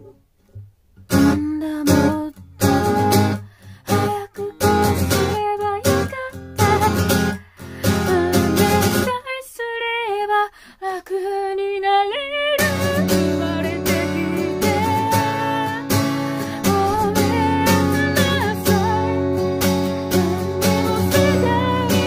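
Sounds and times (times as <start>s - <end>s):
strummed guitar: 0.0s - 9.2s, 12.6s - 22.0s
person singing: 1.2s - 22.0s.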